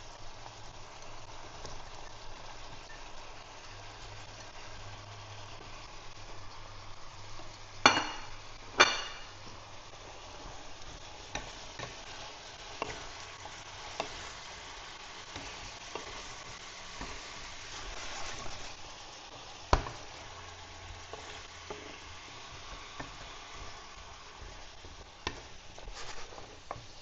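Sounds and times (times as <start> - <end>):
food sizzling in a pan: 0.0 - 27.0.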